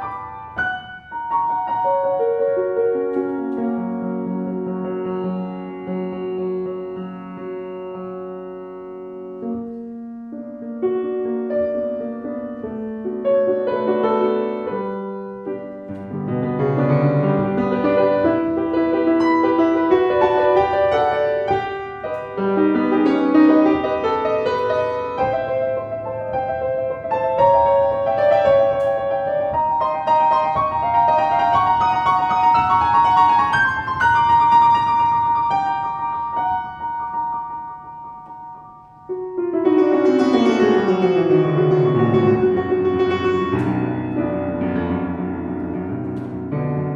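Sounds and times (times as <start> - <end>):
solo classical piano: 0.0 - 46.9.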